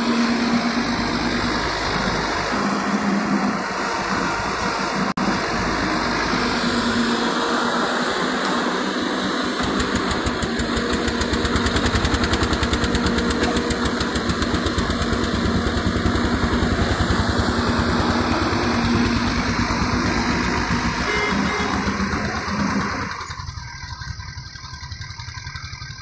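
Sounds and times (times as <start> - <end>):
excavator diesel engine throbbing: 0.0 - 26.0.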